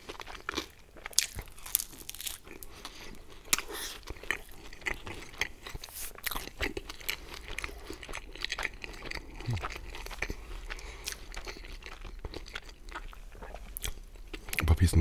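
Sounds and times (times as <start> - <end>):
biting and chewing pizza: 0.0 - 15.0.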